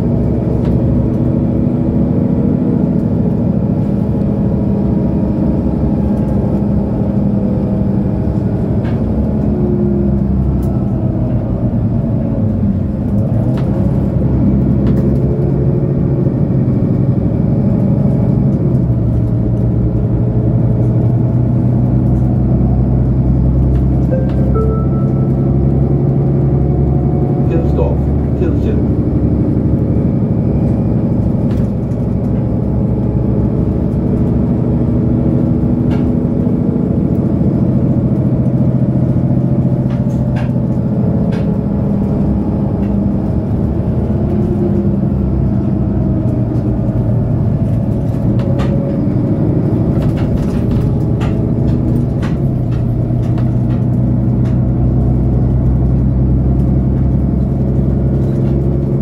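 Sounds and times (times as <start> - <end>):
bus diesel engine idling: 0.0 - 59.0.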